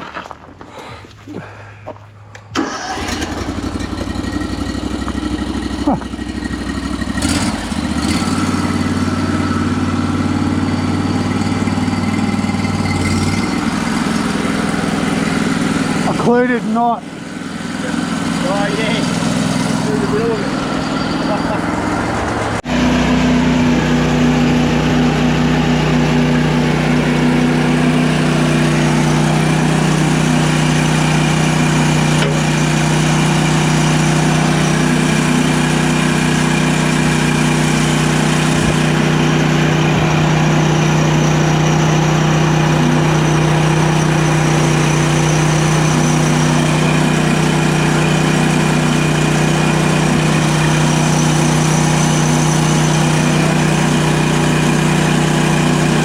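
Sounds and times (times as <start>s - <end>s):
sawmill cutting log: 2.6s - 56.0s.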